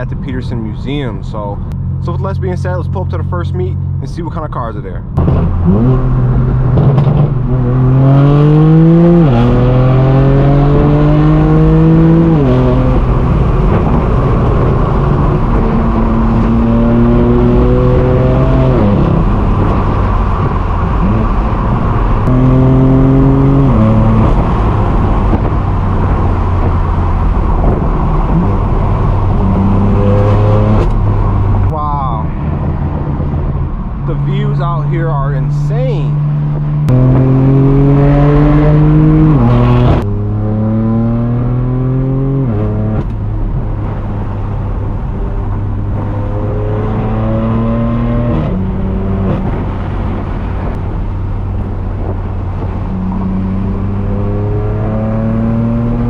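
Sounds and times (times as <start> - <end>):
car engine accelerating loudly: 5.1 - 56.0.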